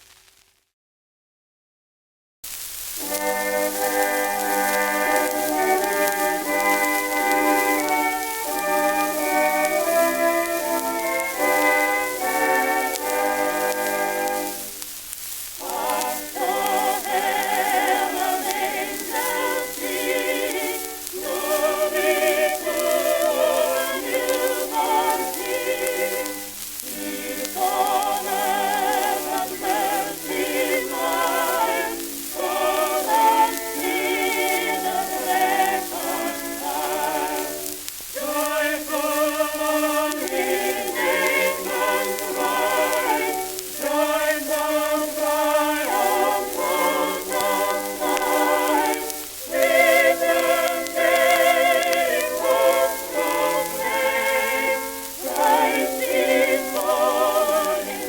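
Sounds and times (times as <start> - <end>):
record crackle and hiss: 0.0 - 0.8, 2.4 - 58.0
voices singing in harmony: 3.0 - 14.8, 15.6 - 58.0.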